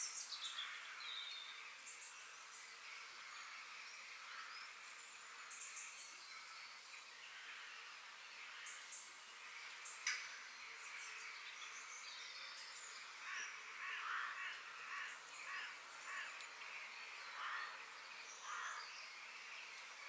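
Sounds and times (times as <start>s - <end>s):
steady hiss: 0.0s - 20.0s
birds calling: 3.9s - 20.0s.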